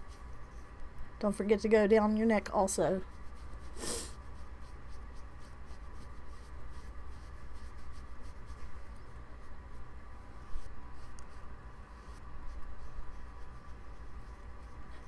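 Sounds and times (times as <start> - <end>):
soft scratchy brush strokes: 0.0 - 15.0
steady low hum: 0.0 - 15.0.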